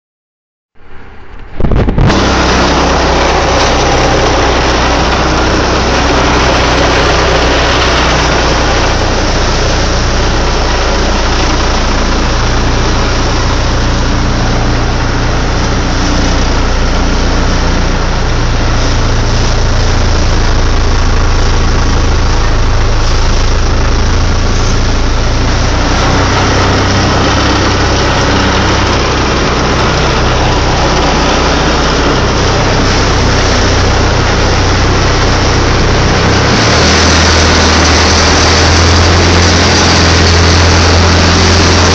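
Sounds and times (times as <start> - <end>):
boat engine droning: 0.8 - 41.9
wind: 0.8 - 41.9
water rushing: 1.3 - 41.9.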